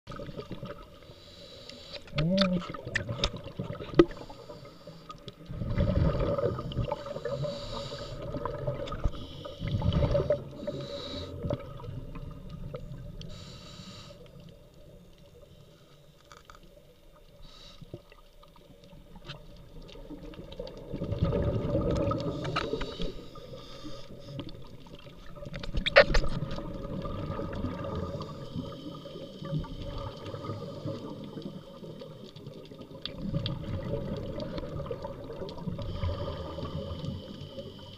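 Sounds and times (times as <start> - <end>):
regulator bubbles gurgling underwater: 0.1 - 37.9.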